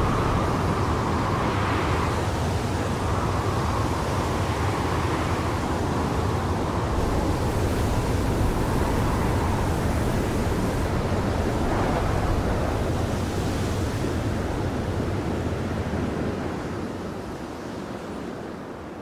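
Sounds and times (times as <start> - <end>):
rushing wind of sandstorm: 0.0 - 19.0.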